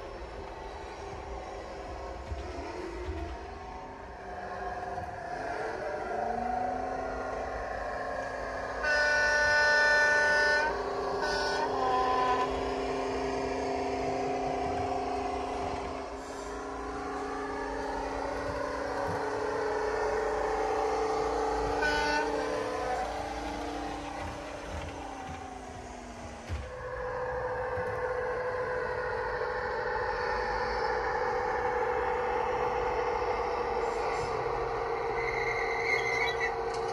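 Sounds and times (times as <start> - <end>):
train horn: 0.0 - 36.9.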